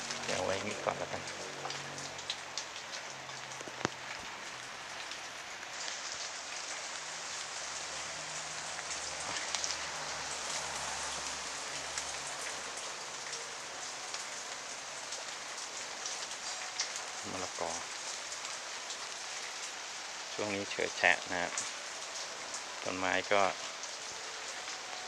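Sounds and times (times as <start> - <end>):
raindrops ticking: 0.0 - 25.0
steady rain hiss: 0.0 - 25.0.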